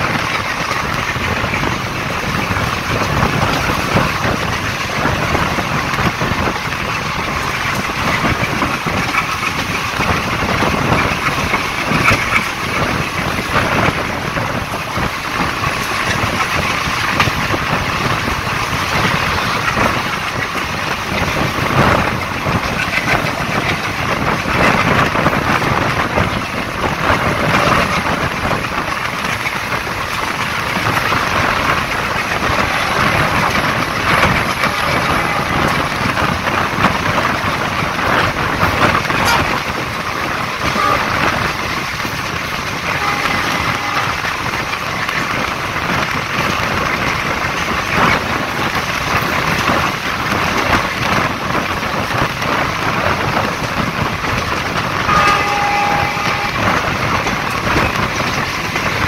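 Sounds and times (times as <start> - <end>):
sharp clack of wheels: 0.0 - 59.0
train wheels rumbling on rails: 0.0 - 59.0
wind rushing: 0.0 - 59.0.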